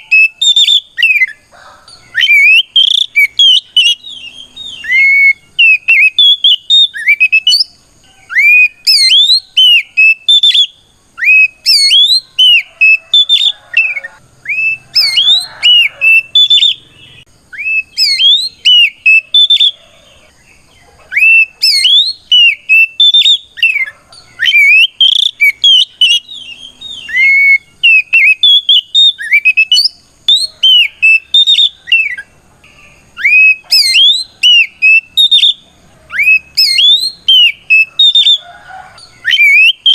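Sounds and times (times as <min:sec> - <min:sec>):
bird singing whistled phrases: 0:00.0 - 0:01.4, 0:02.1 - 0:19.9, 0:21.1 - 0:32.3, 0:33.2 - 0:39.9.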